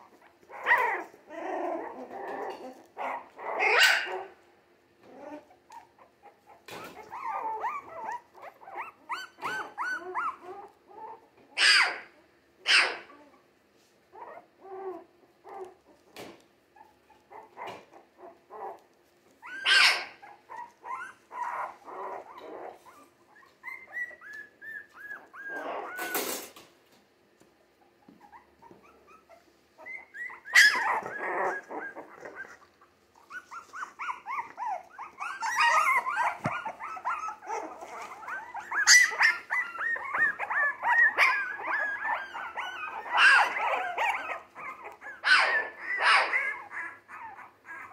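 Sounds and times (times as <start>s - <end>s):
puppies whimpering and yelping: 0.0s - 4.4s, 5.0s - 13.5s, 14.1s - 26.5s, 27.6s - 47.9s.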